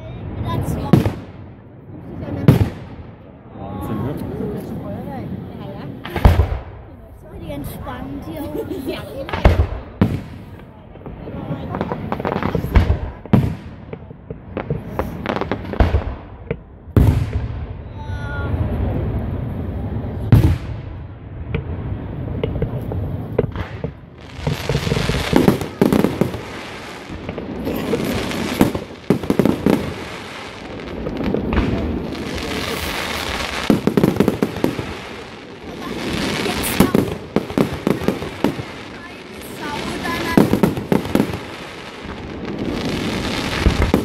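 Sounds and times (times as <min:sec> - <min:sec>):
fireworks bangs: 0:00.1 - 0:44.0
crackling firework bursts: 0:08.8 - 0:44.0.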